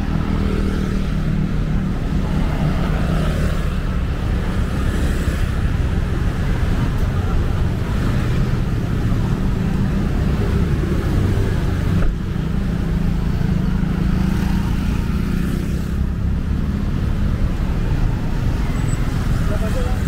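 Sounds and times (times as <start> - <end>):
cars and motorcycles passing: 0.0 - 20.0.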